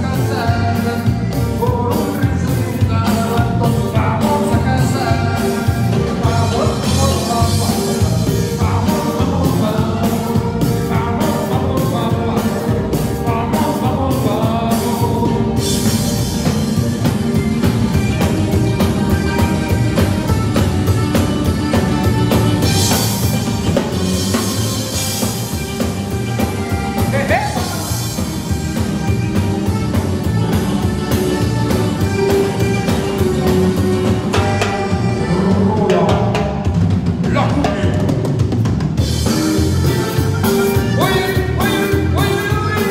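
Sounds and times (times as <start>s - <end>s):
drums: 0.0s - 42.9s
electric bass: 0.0s - 42.9s
live band playing: 0.0s - 42.9s.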